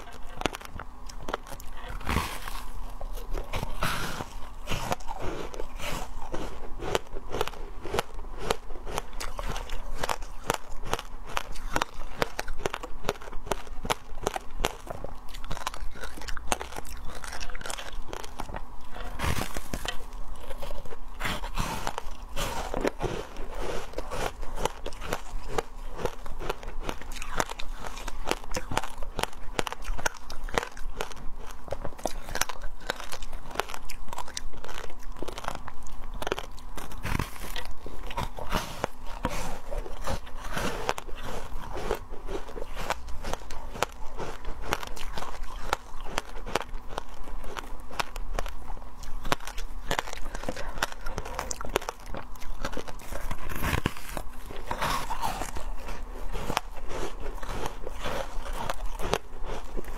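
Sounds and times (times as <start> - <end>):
ice being chewed crunching: 0.0 - 59.9.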